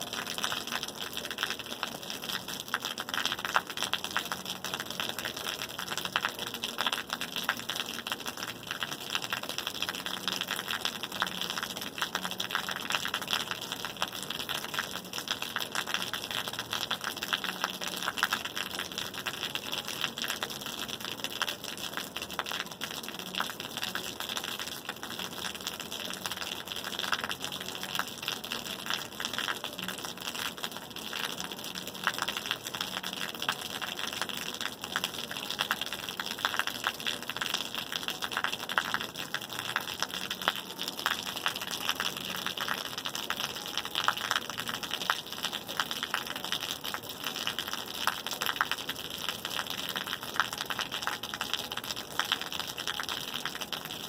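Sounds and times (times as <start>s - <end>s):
raindrop ticks: 0.0s - 54.0s
steady rain hissing: 0.0s - 54.0s.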